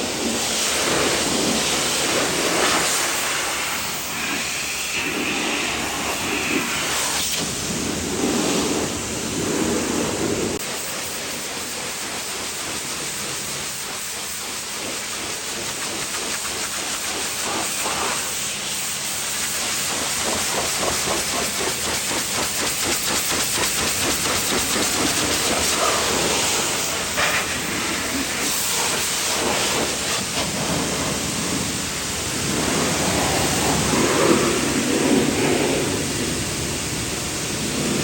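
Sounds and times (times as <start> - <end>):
high-pressure water spray hissing: 0.0 - 38.0.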